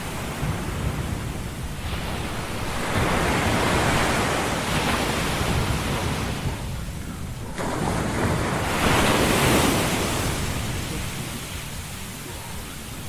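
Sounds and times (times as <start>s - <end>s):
rushing white noise: 0.0s - 13.0s.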